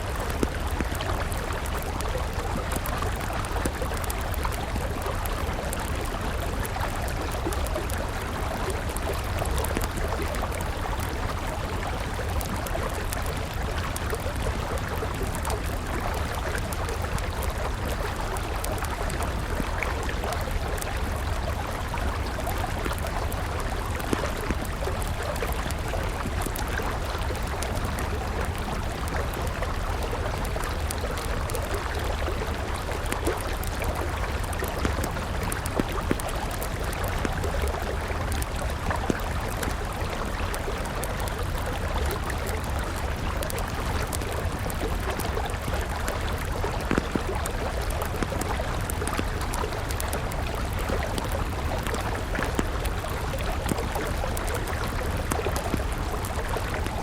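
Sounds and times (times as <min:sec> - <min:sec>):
campfire crackling: 0:00.0 - 0:57.0
river flowing: 0:00.0 - 0:57.0.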